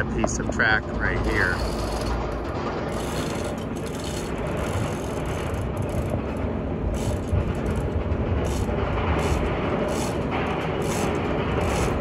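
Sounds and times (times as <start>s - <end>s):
machinery engine rumbling: 0.0s - 12.0s.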